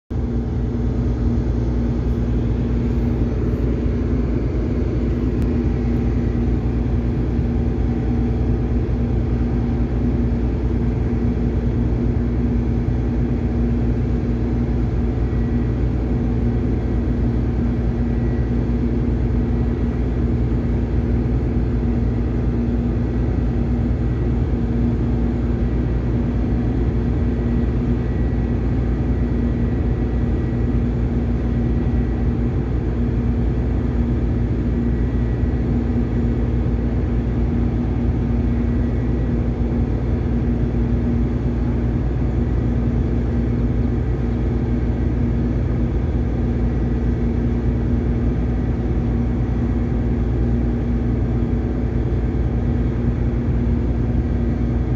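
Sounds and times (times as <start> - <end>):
steady hum tone: 0.1 - 54.9.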